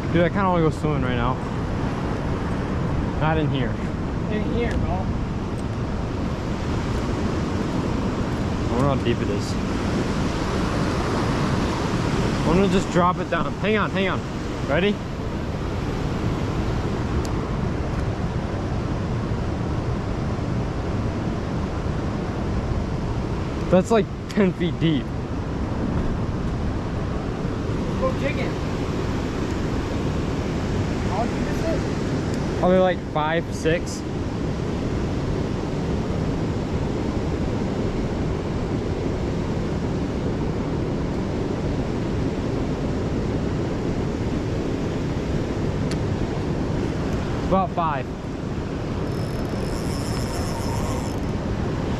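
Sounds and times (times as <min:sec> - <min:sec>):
wind on microphone: 0:00.0 - 0:51.9.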